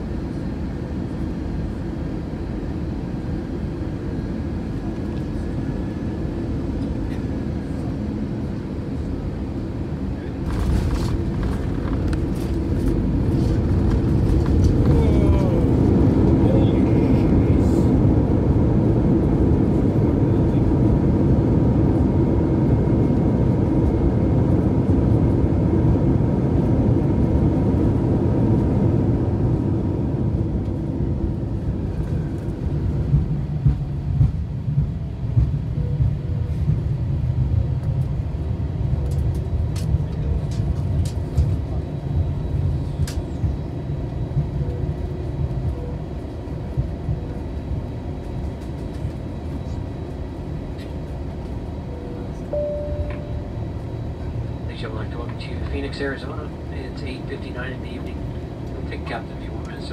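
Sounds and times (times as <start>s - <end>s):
jet engine and rolling noise: 0.0s - 59.9s
low rumble of wheels: 0.3s - 59.9s.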